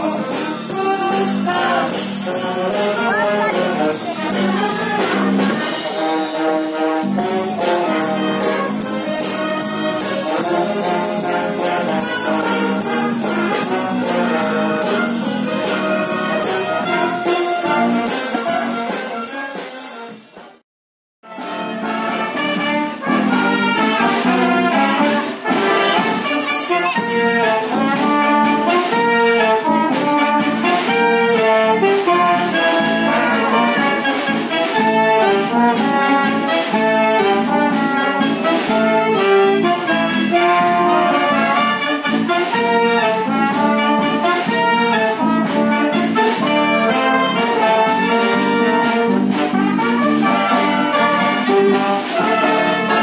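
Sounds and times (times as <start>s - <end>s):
wind band playing: 0.0s - 20.6s, 21.2s - 53.0s.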